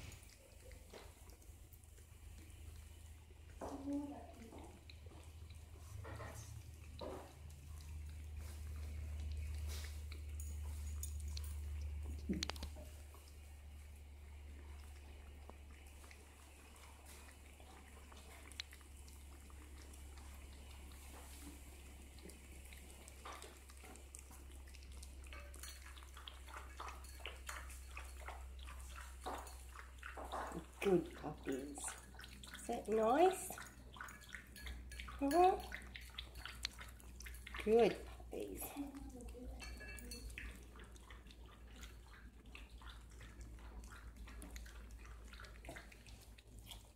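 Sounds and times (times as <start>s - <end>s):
puppies chewing and smacking: 0.0s - 46.9s.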